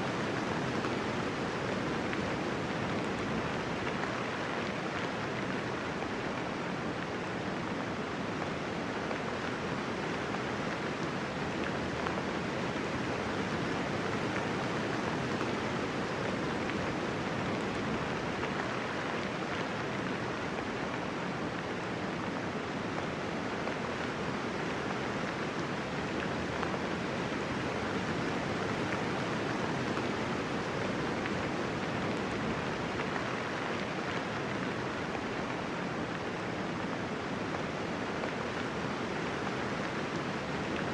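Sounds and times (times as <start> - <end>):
gentle rainfall: 0.0 - 40.9.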